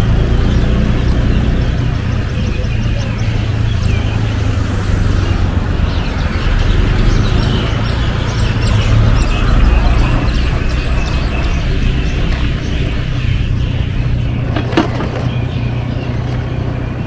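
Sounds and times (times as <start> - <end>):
birds chirping: 0.0 - 17.0
traffic engine hum: 0.0 - 17.0.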